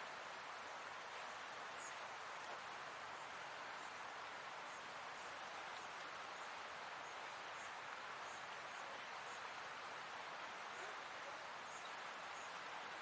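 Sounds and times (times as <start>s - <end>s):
open-air background hiss: 0.0s - 13.0s.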